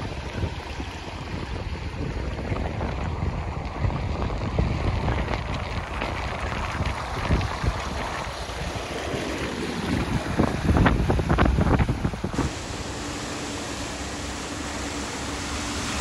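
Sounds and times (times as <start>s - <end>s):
rushing floodwater: 0.0s - 16.0s
wind buffeting microphone: 0.0s - 16.0s.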